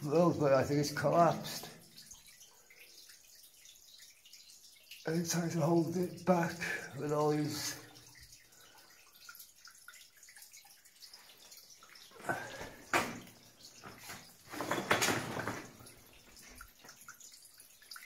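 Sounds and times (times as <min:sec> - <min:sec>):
water dripping: 0:00.0 - 0:18.0
water splashing: 0:00.0 - 0:18.0.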